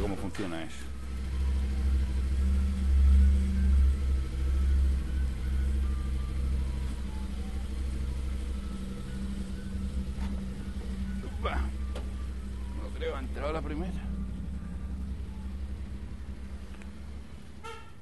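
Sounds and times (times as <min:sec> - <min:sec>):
motorcycle engine at low revs: 0:00.9 - 0:17.9.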